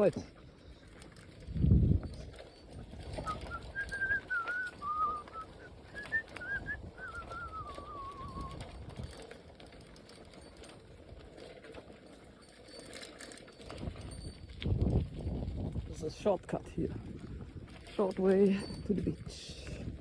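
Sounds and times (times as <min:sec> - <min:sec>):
low rumble of bike riding: 0:00.0 - 0:20.0.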